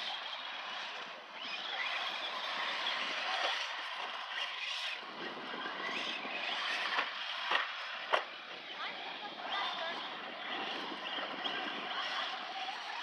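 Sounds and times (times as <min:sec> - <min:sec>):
rc truck motor whining: 0:00.0 - 0:13.0.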